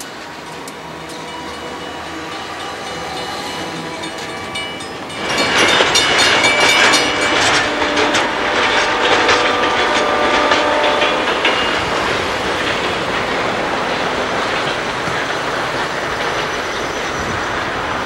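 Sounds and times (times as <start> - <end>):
diesel locomotives rumbling: 0.0 - 18.0
train wheels clicking over rail joints: 0.0 - 18.0.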